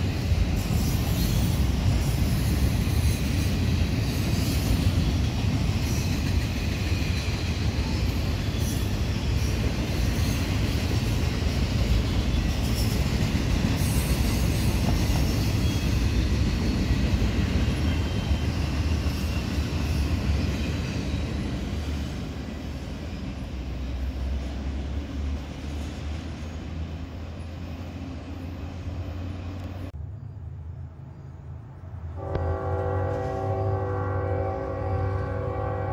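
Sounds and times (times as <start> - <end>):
freight train rumbling and rattling: 0.0 - 35.9.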